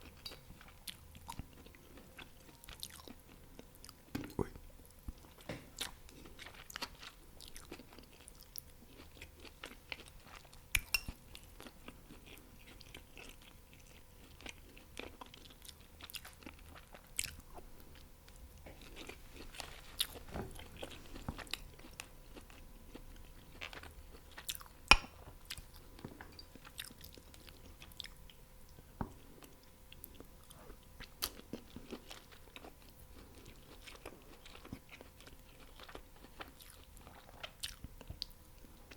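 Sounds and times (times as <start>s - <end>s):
mouth chewing and crunching food: 0.0s - 38.9s.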